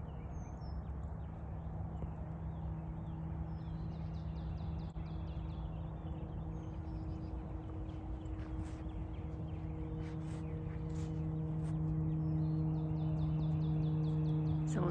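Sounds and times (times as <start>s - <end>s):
birds chirping: 0.0s - 14.9s
steady low hum: 0.0s - 14.9s.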